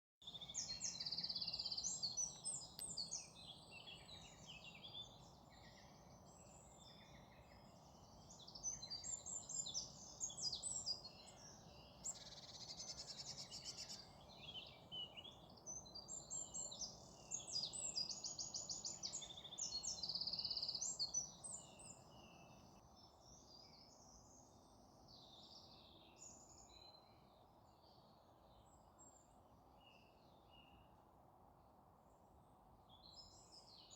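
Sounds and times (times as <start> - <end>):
small birds chirping and trilling: 0.2 - 30.9, 32.9 - 33.9
low background noise: 0.2 - 33.9.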